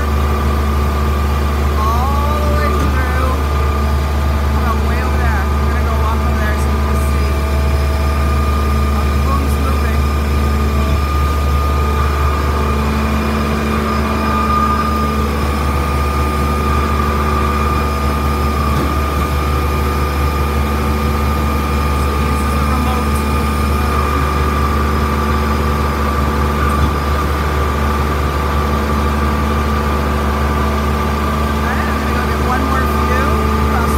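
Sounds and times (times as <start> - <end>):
heavy diesel engine drone: 0.0 - 33.9
high-pitched whine: 0.0 - 33.9.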